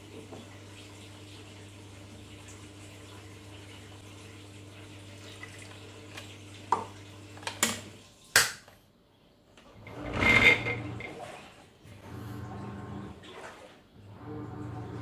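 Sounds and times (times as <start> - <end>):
water pouring: 0.0 - 8.4, 9.9 - 15.0.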